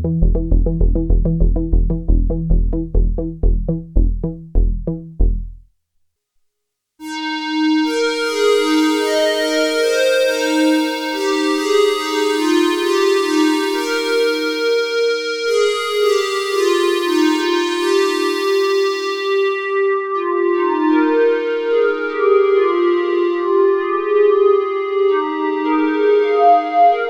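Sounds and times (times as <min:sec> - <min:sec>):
synthesizer chords: 0:00.0 - 0:05.6, 0:07.0 - 0:27.0.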